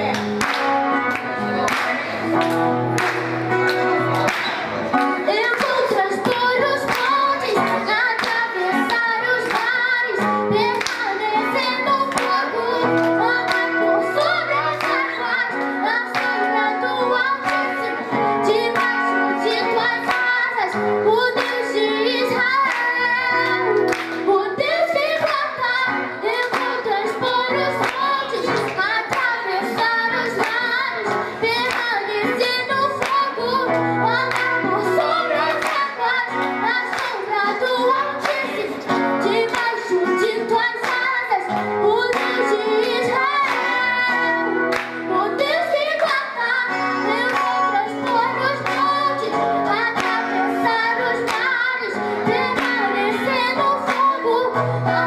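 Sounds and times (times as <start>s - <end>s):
acoustic guitar: 0.0s - 55.0s
girl singing into microphone: 0.0s - 55.0s.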